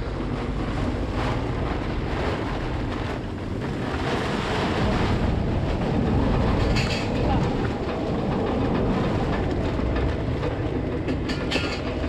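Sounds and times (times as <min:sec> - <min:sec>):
rain: 0:00.0 - 0:12.0
rough water: 0:00.0 - 0:12.0
strong wind buffeting microphone: 0:00.0 - 0:12.0.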